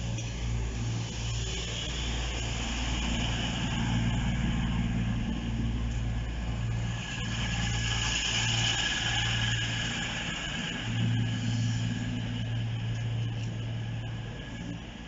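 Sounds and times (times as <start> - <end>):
constant high hiss: 0.0 - 15.0
train low pulsing hum: 0.0 - 15.0.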